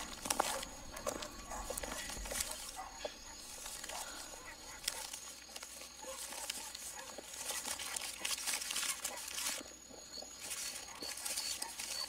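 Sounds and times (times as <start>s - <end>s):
wrapping paper crinkling and tearing: 0.0s - 9.7s, 10.3s - 12.0s.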